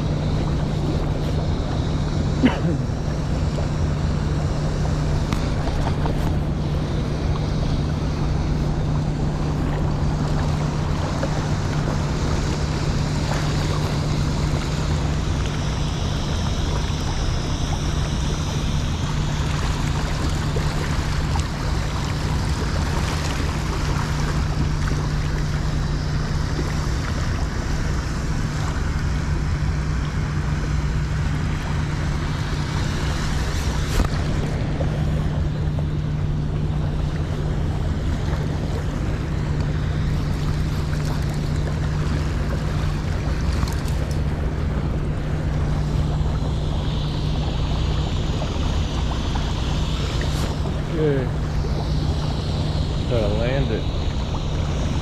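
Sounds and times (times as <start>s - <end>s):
constant low hum: 0.0s - 55.0s.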